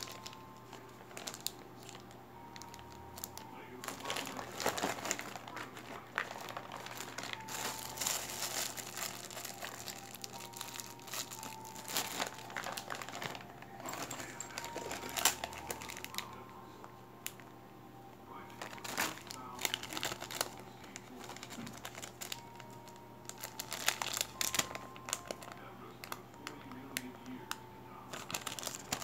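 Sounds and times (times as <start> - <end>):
plastic bags crinkling: 0.0 - 16.5, 18.5 - 29.0.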